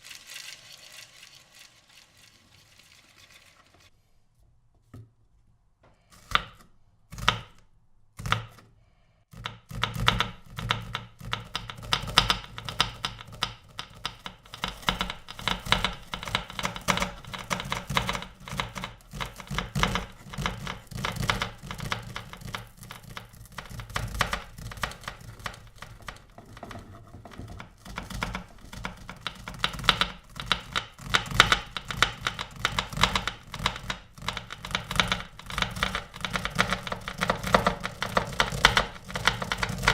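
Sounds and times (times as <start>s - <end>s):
knife chopping on cutting board: 6.1s - 7.6s, 8.2s - 8.6s, 9.3s - 39.9s.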